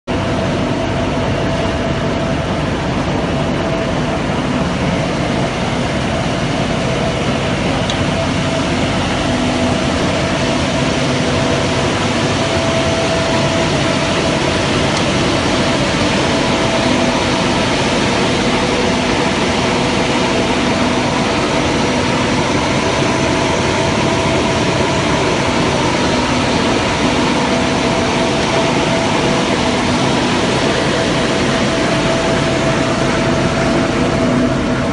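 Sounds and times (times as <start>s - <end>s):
machine drone with hum: 0.0s - 34.9s.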